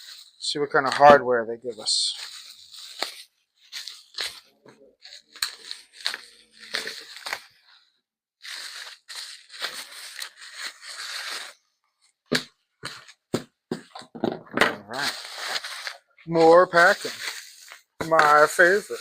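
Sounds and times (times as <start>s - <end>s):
packing material crinkling: 0.0s - 7.8s, 8.4s - 11.6s, 14.8s - 19.0s
packing material rustling: 0.0s - 14.0s, 14.8s - 19.0s.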